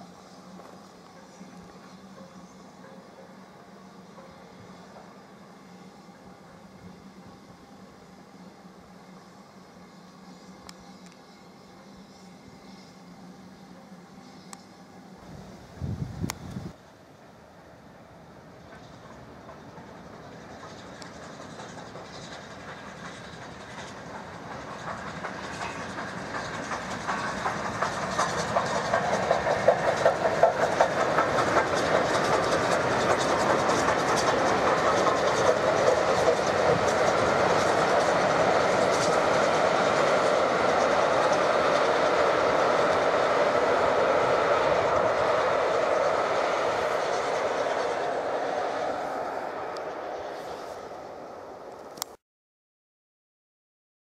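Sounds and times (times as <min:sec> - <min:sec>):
coaches rolling along track: 0:00.0 - 0:52.2
steam locomotive passing: 0:00.0 - 0:52.2.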